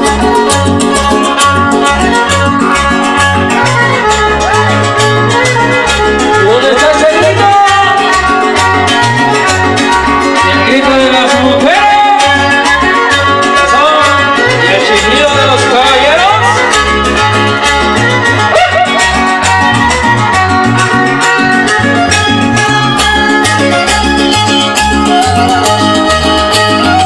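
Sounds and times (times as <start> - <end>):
latin dance band music: 0.0 - 27.0.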